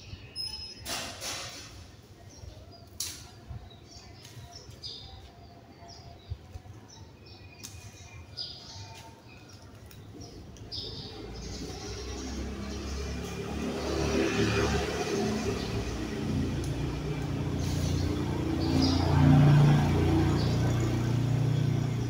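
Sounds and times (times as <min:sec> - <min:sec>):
small birds chirping: 0:01.7 - 0:22.0.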